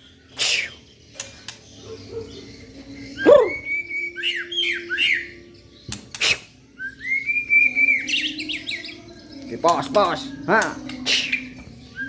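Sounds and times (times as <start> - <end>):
bird whistling song: 0.0 - 12.0.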